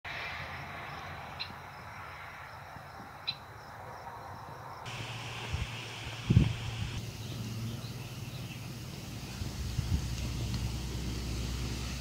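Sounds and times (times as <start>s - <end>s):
insect drone: 0.1s - 12.0s.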